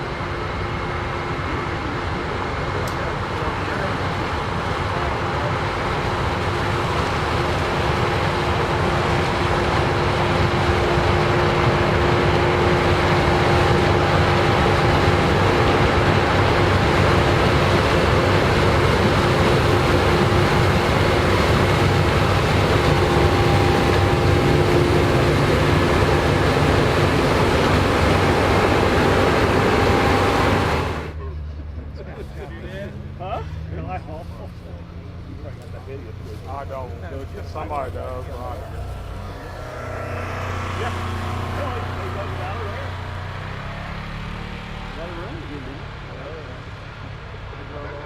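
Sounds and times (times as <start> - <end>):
combine harvester running: 0.0 - 48.0.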